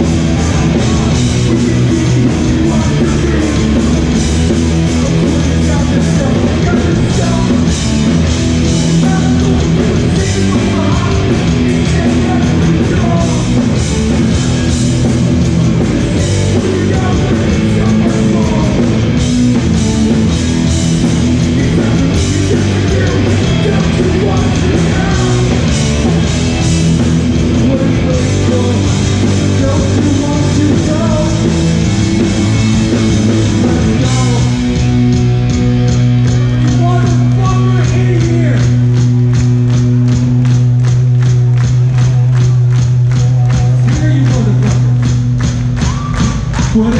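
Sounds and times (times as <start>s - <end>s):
punk band playing live: 0.0s - 46.9s.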